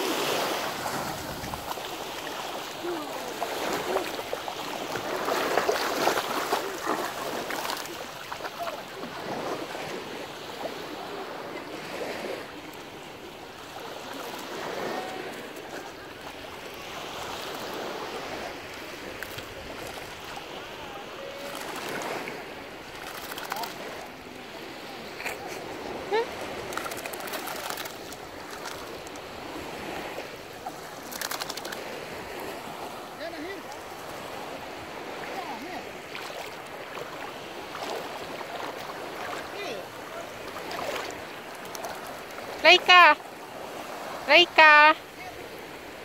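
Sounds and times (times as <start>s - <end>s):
small waves breaking on shore: 0.0s - 46.0s.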